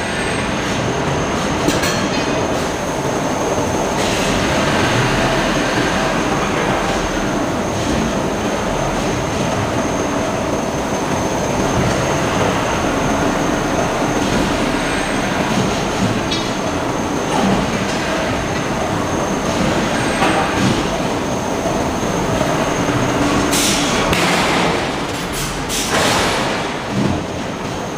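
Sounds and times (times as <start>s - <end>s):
industrial machinery din: 0.0s - 27.9s.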